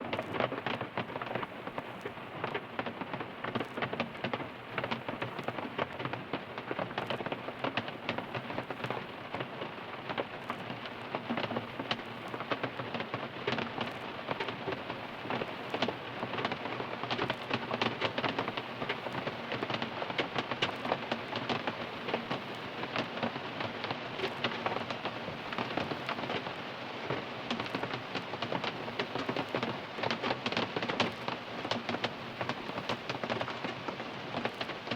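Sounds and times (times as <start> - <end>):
rain on car roof: 0.0 - 34.9.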